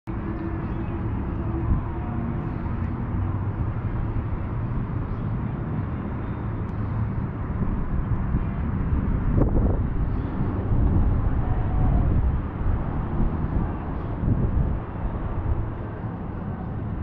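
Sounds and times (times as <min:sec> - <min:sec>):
distant road traffic rumble: 0:00.1 - 0:17.0.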